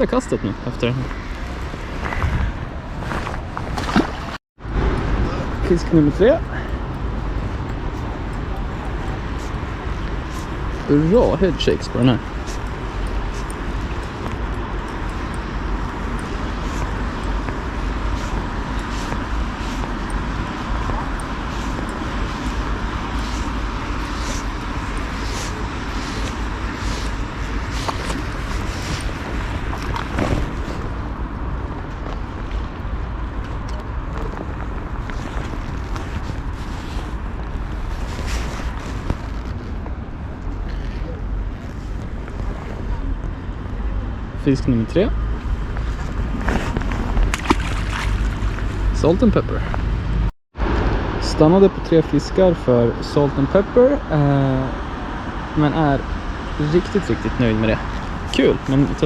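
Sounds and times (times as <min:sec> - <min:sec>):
road traffic: 0:00.0 - 0:59.0
wind rumble on microphone: 0:00.0 - 0:59.0.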